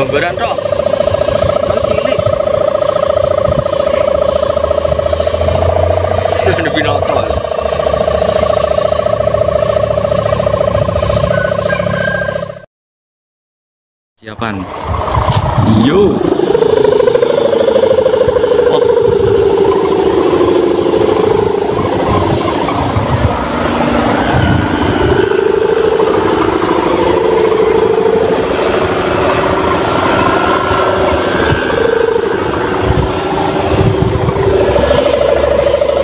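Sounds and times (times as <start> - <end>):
kite ribbon buzzing drone: 0.0 - 12.7, 14.8 - 36.0.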